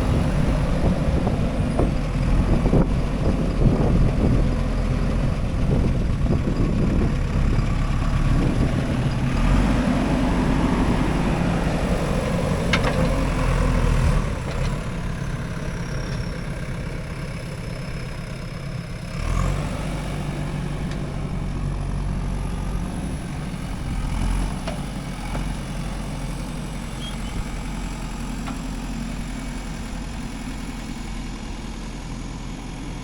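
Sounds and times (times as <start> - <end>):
diesel engine revving: 0.0 - 33.0.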